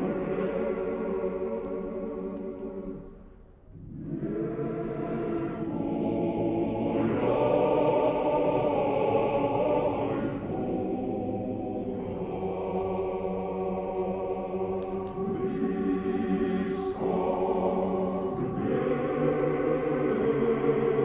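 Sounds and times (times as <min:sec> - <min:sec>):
choir singing chant: 0:00.0 - 0:03.1, 0:03.8 - 0:21.0.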